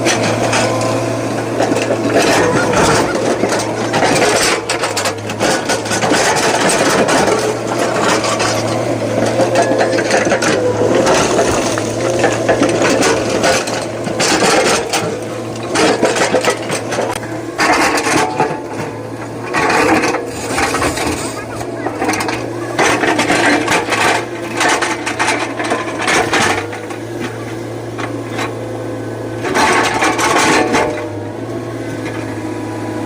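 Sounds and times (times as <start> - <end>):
low engine hum: 0.0 - 33.0
machinery grinding and clattering: 0.0 - 33.0.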